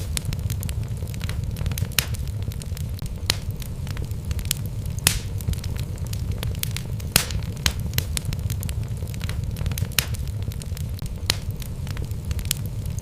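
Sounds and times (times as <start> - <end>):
flames rumbling: 0.0 - 13.0
logs crackling and popping: 0.0 - 13.0.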